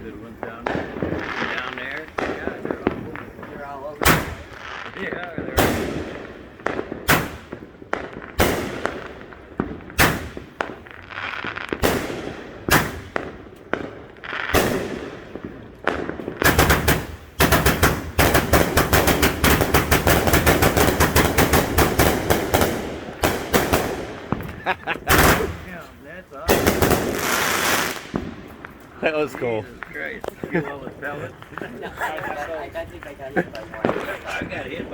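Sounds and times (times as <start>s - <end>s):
fireworks cake firing: 0.0s - 34.9s.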